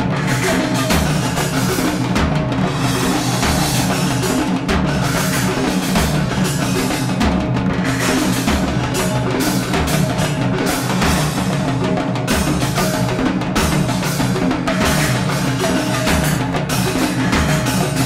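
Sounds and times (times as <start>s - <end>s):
music with drum beat: 0.0s - 18.0s.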